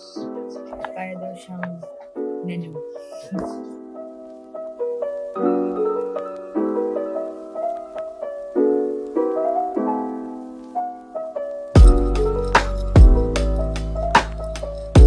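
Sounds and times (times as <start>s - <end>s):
soft piano chords and melody: 0.0s - 15.0s.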